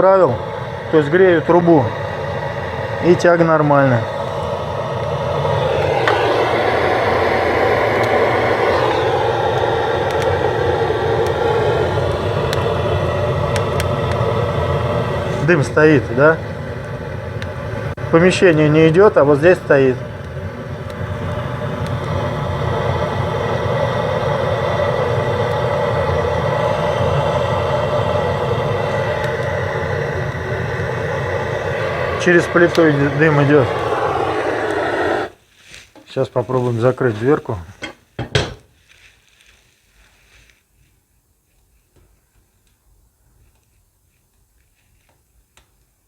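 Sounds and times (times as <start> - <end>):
gas torch burner rushing: 0.0 - 38.7.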